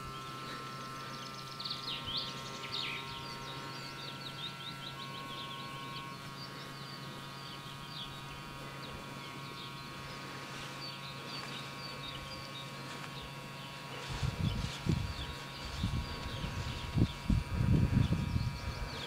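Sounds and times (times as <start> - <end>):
songbirds chirping: 0.0 - 19.0
steady high hum: 0.0 - 19.0.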